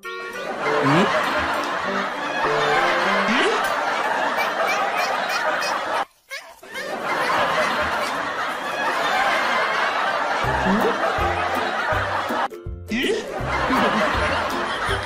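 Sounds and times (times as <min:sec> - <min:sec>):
crowd laughing: 0:00.0 - 0:15.0.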